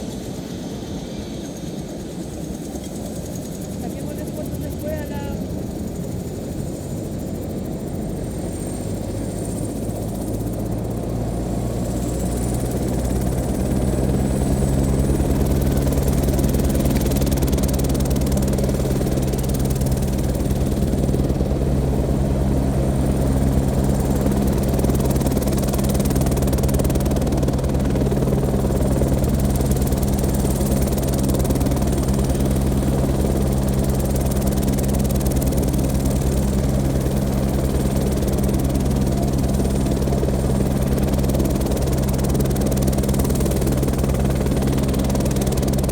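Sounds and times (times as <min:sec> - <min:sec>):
faint high turbine whine: 0:00.0 - 0:45.9
helicopter rotor beat: 0:00.0 - 0:45.9.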